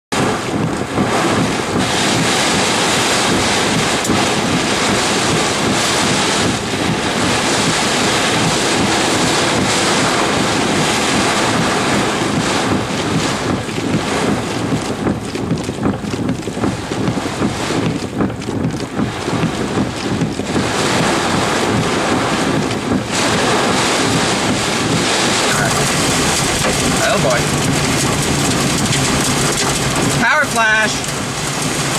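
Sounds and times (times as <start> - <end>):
heavy rain: 0.1 - 31.9
wind buffeting microphone: 0.1 - 31.9.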